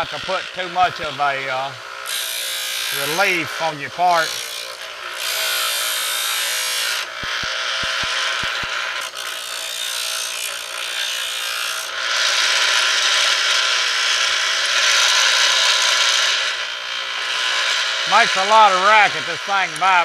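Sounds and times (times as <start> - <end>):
grinder wheel grinding metal: 0.0 - 20.0.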